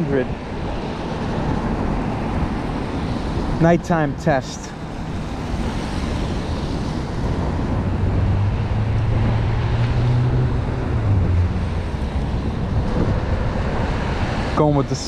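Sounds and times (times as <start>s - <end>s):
vehicle engine low drone: 0.0s - 15.0s
cars passing with tyre hiss: 0.2s - 15.0s.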